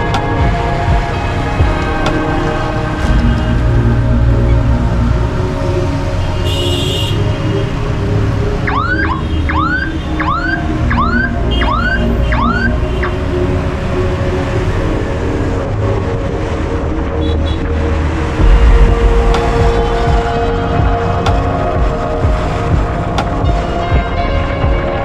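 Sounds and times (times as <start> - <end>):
road traffic: 0.0 - 25.0.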